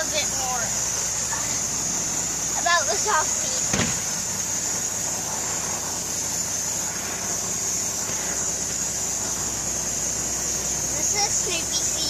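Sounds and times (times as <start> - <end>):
diesel engine idling: 0.0 - 12.0
steady high hiss: 0.0 - 12.0.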